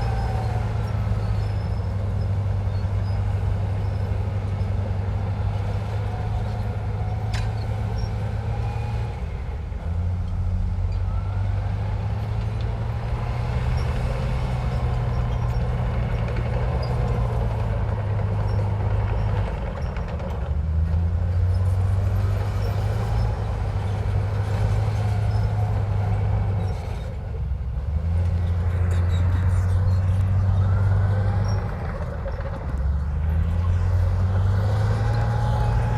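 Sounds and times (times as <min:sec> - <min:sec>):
bulldozer diesel engine under load: 0:00.0 - 0:35.9.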